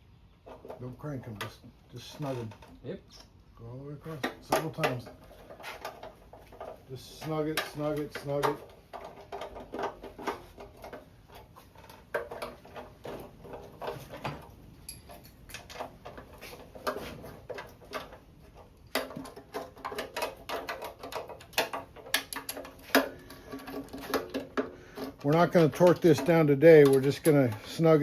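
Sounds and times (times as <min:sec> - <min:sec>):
hand tools clicking on bolts: 0:04.1 - 0:28.0.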